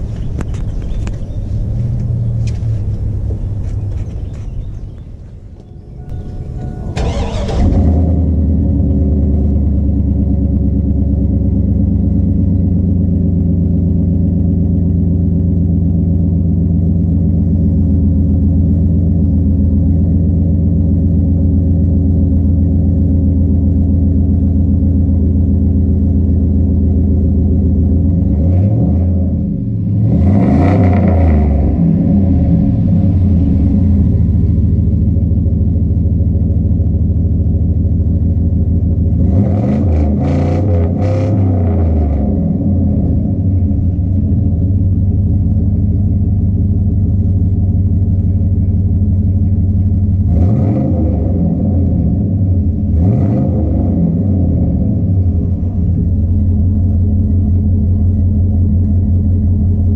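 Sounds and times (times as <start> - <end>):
truck engine idling and revving: 0.0 - 59.9.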